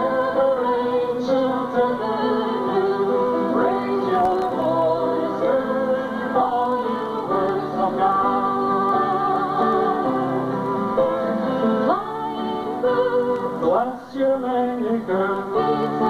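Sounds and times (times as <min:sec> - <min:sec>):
hymn singing: 0:00.0 - 0:16.0.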